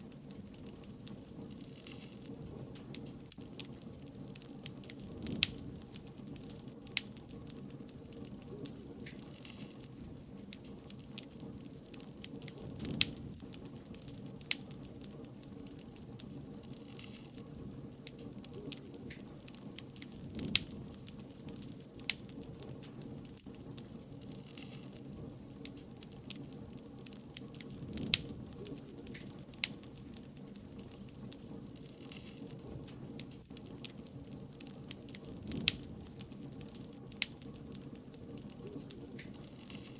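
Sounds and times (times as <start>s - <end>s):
low rush of burning: 0.0s - 39.9s
wood fire crackling and popping: 0.0s - 39.9s.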